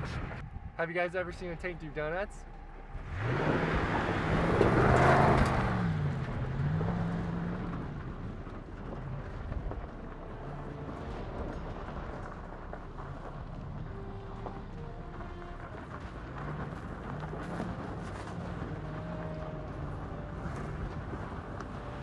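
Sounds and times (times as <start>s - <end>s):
truck engine revving: 1.5s - 22.0s.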